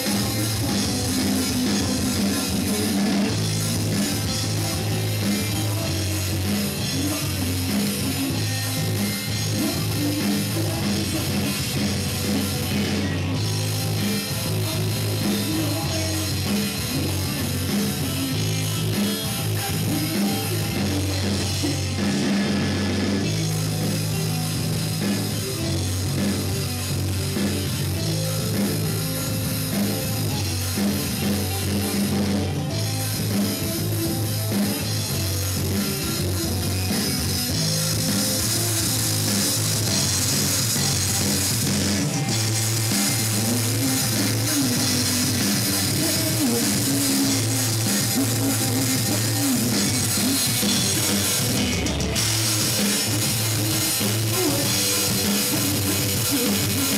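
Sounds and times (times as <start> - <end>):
drum kit: 0.0 - 56.9
guitars: 0.0 - 56.9.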